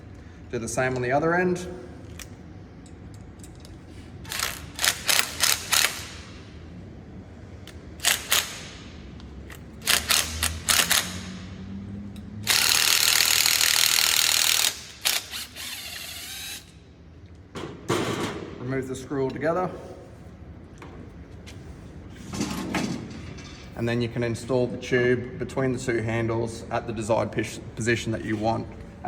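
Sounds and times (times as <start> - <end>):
loud continuous mechanical noise: 0.0 - 29.0.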